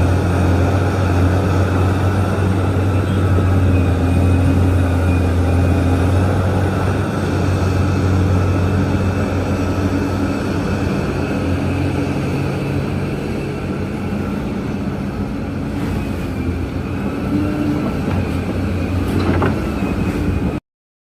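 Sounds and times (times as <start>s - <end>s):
excavator diesel engine running: 0.0s - 20.6s.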